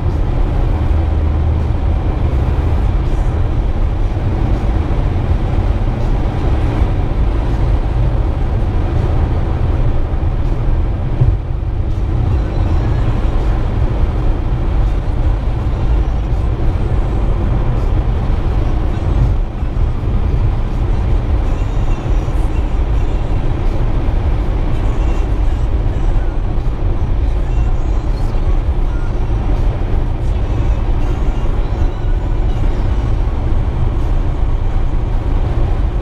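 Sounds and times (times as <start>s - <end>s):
car engine rumble in cabin: 0.0s - 36.0s.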